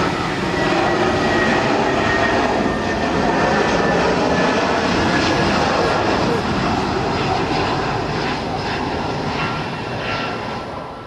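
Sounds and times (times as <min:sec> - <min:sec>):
jet airliner passing: 0:00.0 - 0:11.0.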